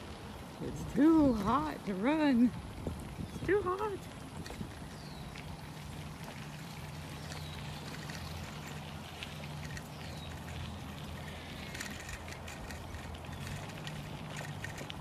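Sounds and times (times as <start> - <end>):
tyres on dirt track: 0.0 - 15.0.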